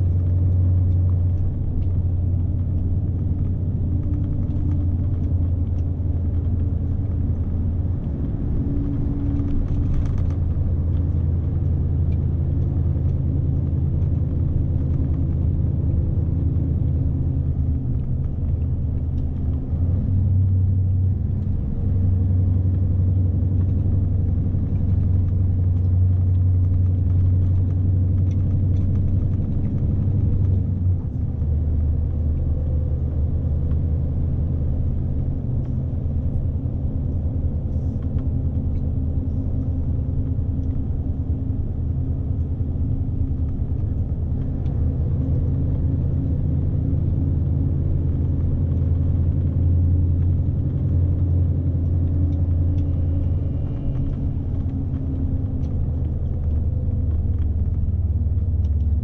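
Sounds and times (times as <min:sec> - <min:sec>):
road rumble: 0:00.0 - 0:59.0
truck diesel engine drone: 0:00.0 - 0:59.0.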